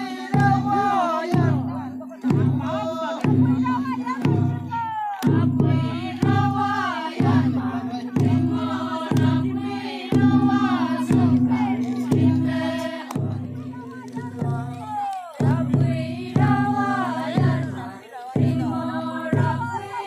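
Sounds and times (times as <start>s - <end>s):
low struck drum beat: 0.0s - 20.0s
voices singing in chorus: 0.0s - 20.0s.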